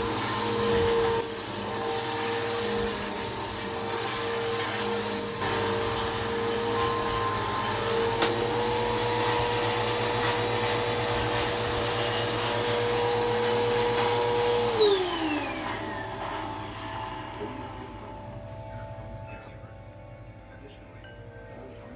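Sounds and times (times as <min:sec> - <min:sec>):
vacuum cleaner whining: 0:00.0 - 0:21.0.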